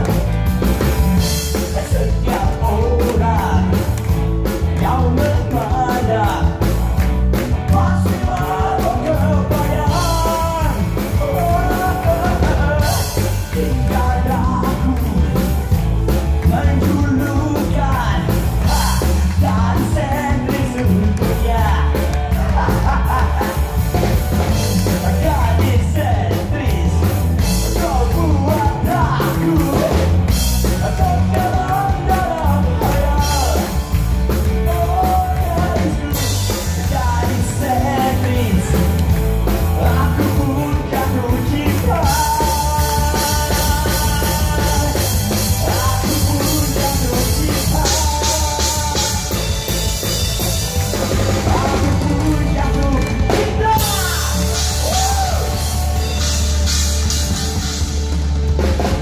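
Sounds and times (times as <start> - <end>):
drums and bass beat: 0.0 - 59.0
man singing rock song: 0.0 - 59.0
rock band: 0.0 - 59.0.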